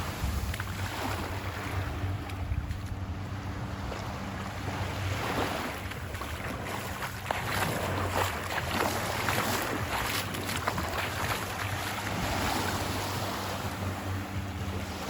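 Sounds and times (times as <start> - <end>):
ocean surf washing on beach: 0.0 - 15.0
wind rumble on microphone: 0.0 - 15.0.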